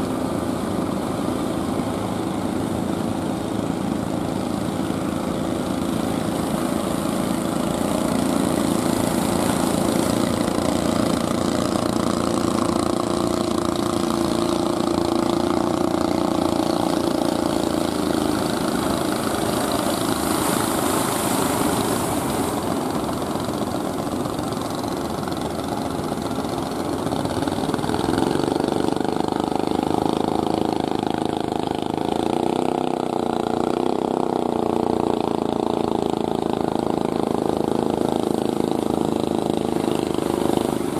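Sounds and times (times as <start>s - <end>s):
boat engines running: 0.0s - 40.9s.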